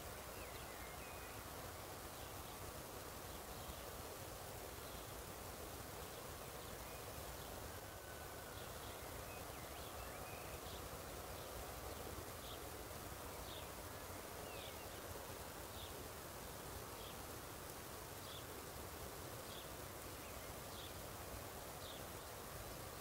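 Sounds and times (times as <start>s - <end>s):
wind through wheat field: 0.0s - 23.0s.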